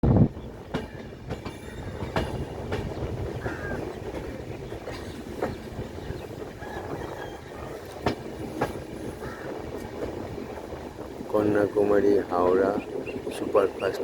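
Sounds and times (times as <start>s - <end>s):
train rumbling on rails: 0.0s - 14.0s
wheels clacking over rail joints: 0.1s - 14.0s.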